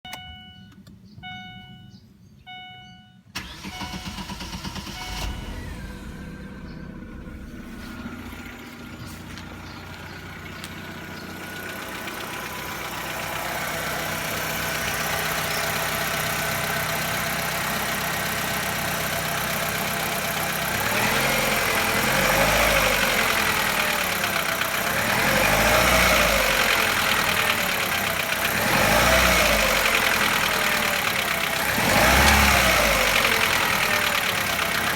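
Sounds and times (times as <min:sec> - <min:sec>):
car engine starting and idling: 0:03.3 - 0:34.9.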